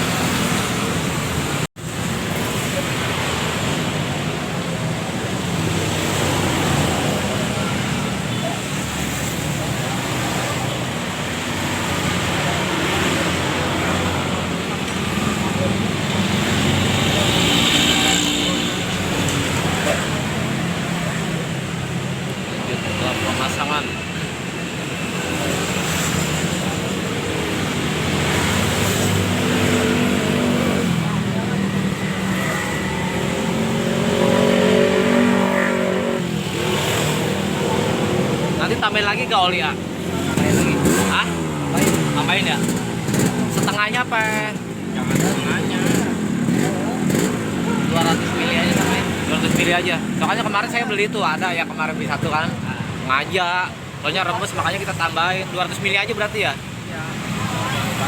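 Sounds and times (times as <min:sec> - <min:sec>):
background traffic noise: 0:00.0 - 0:58.0.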